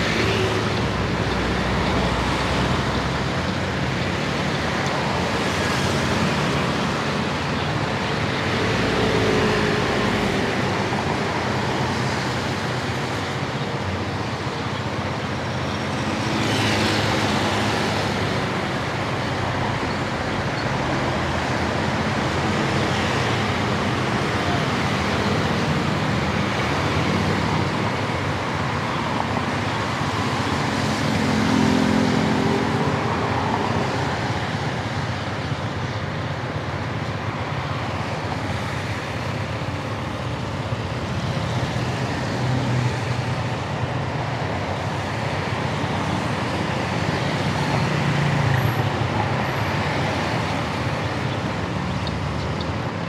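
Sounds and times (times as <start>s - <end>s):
car and scooter engines: 0.0s - 53.0s
road noise: 0.0s - 53.0s.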